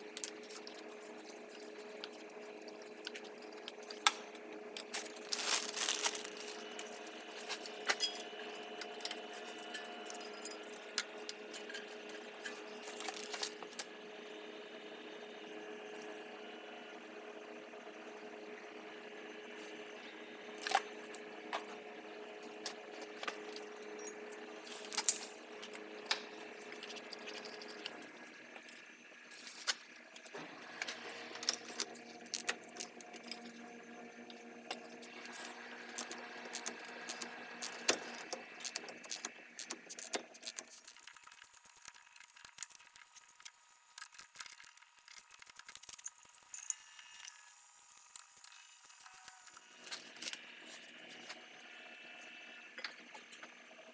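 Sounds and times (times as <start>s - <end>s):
steady background hum: 0.0s - 53.9s.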